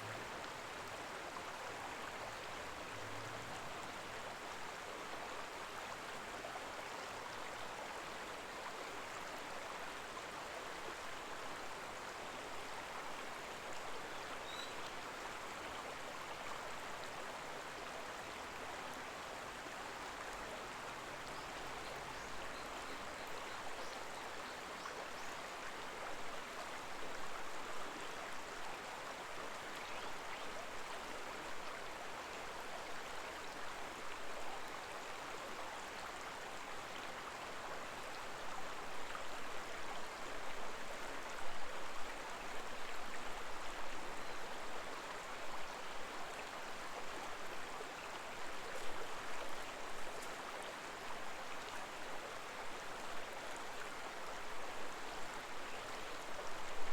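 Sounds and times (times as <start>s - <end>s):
shallow river water babbling: 0.0s - 56.9s.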